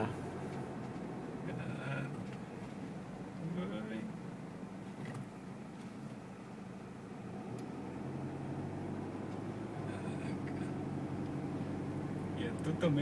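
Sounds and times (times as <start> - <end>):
diesel engine and road noise: 0.0 - 13.0.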